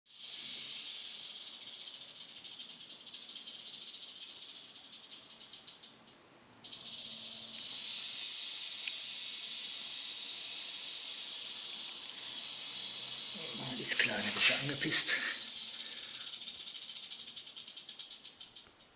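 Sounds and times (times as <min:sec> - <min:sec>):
rattlesnake rattling: 0:00.1 - 0:18.9.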